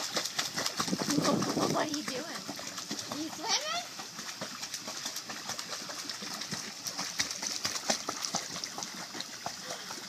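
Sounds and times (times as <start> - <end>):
pool water splashing: 0.0 - 10.0.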